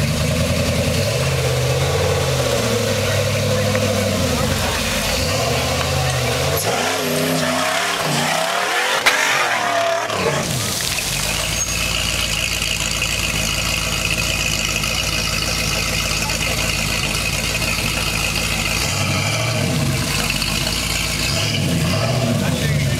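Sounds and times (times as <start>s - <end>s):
buggy engine revving hard: 0.0s - 22.9s
tyres spinning in dirt: 0.0s - 22.9s.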